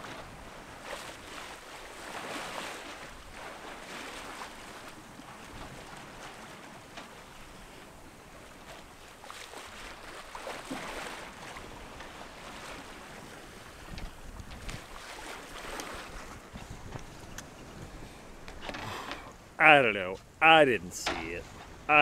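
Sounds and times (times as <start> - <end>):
water splashing along a hull: 0.0 - 22.0.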